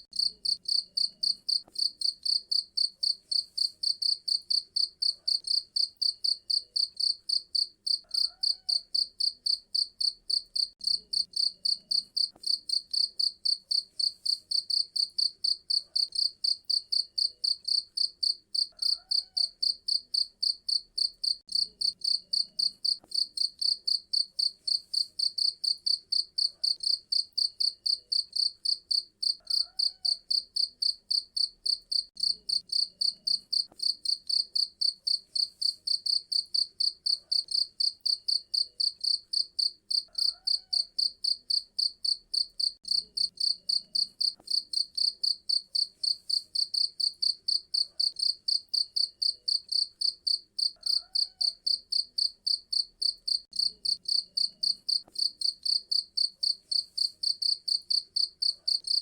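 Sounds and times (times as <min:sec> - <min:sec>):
cricket chirping: 0:00.2 - 0:59.0.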